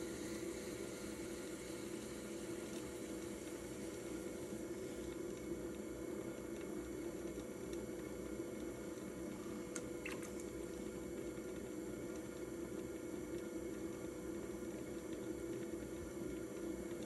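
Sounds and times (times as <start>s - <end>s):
pottery wheel humming: 0.0s - 17.0s.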